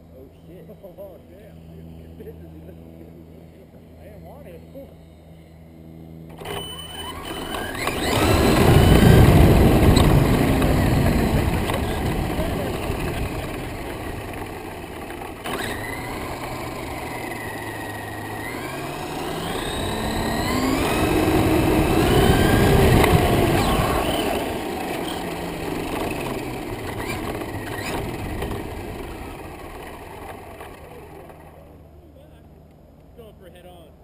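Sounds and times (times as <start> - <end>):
model airplane motor whining: 0.5 - 32.6.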